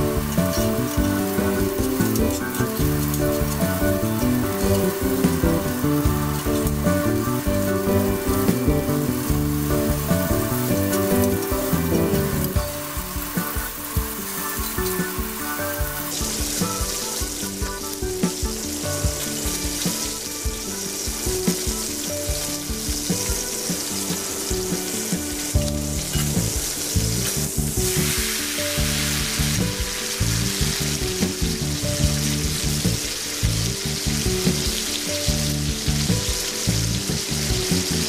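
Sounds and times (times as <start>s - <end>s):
background music: 0.0s - 38.0s
steak sizzling in skillet: 0.0s - 38.0s.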